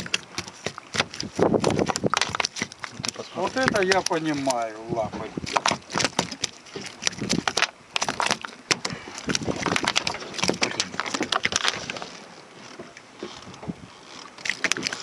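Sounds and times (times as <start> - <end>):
fish flapping on deck: 0.0 - 12.8, 14.4 - 15.0.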